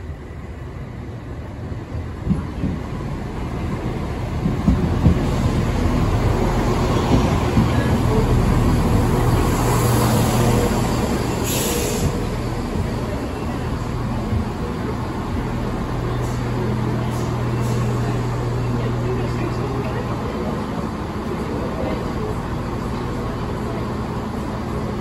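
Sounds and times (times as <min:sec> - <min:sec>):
train engine hum: 0:00.0 - 0:25.0
train wheels rumbling: 0:00.0 - 0:25.0.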